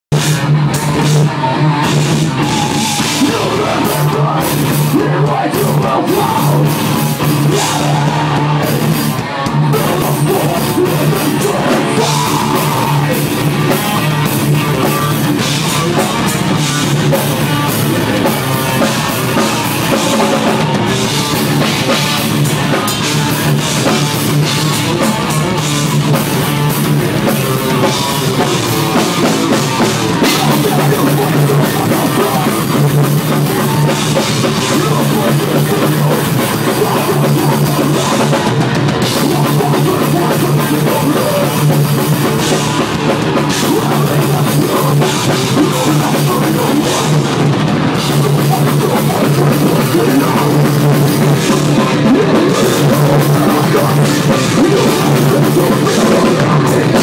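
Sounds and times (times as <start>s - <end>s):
distorted electric guitars: 0.0s - 57.0s
drum kit: 0.1s - 57.0s
thrash metal band playing: 0.1s - 57.0s.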